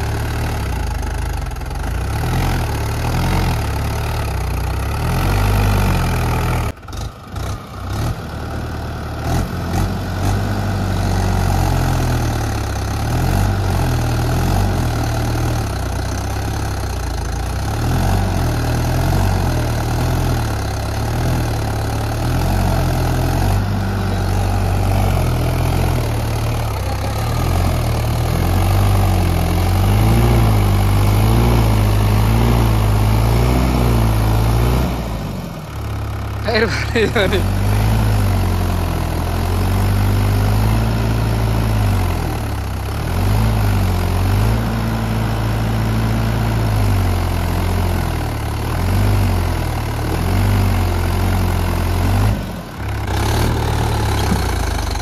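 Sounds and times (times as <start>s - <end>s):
tractor diesel engine revving: 0.0s - 55.0s.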